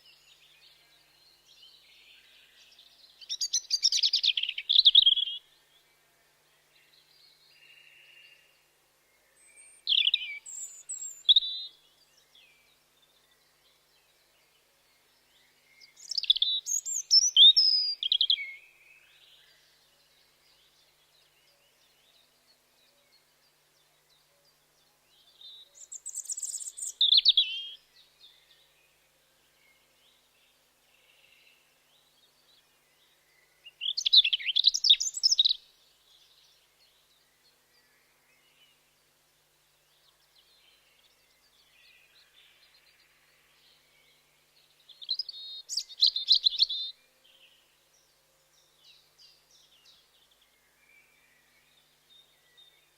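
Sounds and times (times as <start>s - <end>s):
robin singing: 0.0s - 5.9s, 6.7s - 52.9s.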